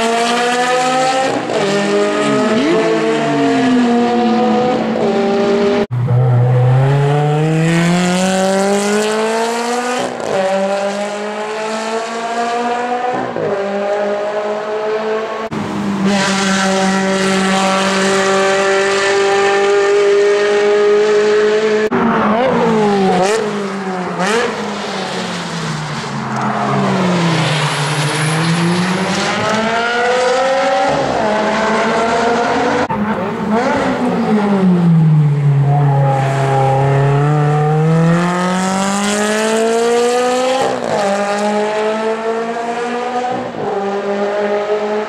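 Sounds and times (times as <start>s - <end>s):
race car engine accelerating: 0.0s - 45.0s.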